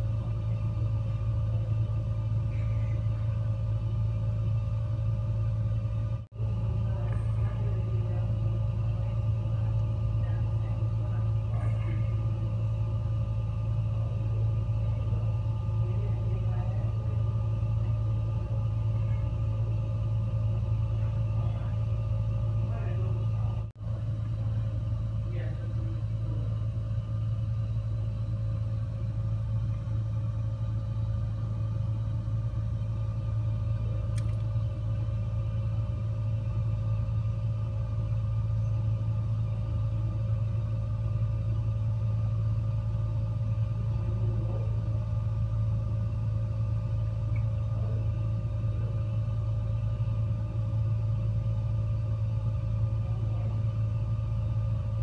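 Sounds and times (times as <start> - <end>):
gas fireplace humming: 0.0 - 55.0.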